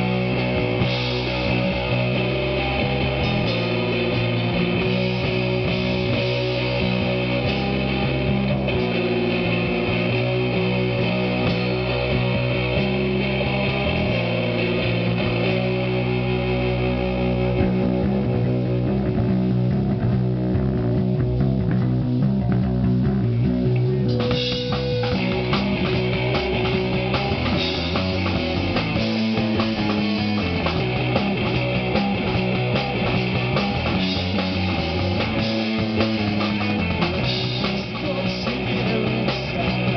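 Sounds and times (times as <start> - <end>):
rock music with electric guitar: 0.0 - 39.9.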